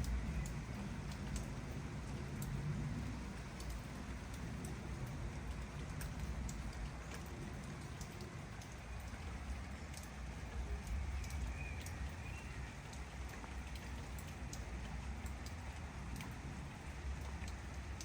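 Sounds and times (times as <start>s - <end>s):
rain drops ticking: 0.0s - 18.0s.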